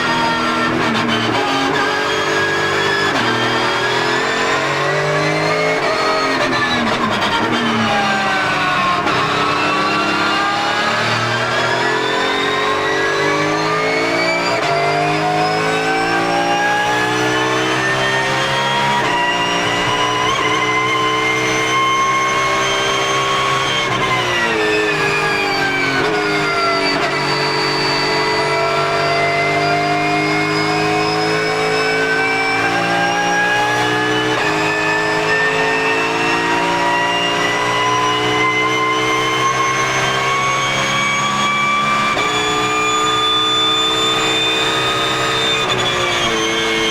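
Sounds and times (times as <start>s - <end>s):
race car engine at full throttle: 0.0s - 46.9s.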